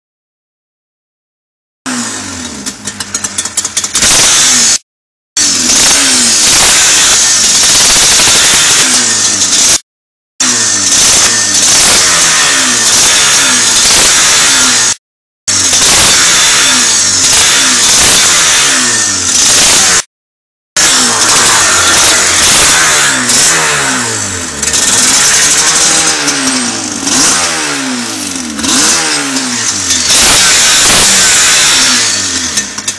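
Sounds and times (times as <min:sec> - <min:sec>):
motorcycle engine revving: 0:01.9 - 0:04.8, 0:05.4 - 0:09.8, 0:10.4 - 0:20.1, 0:20.8 - 0:32.9.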